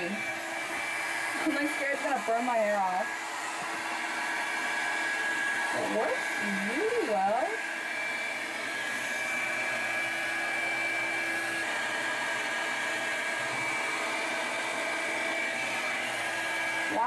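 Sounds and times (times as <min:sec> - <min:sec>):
blow-dryer brush running: 0:00.0 - 0:17.0.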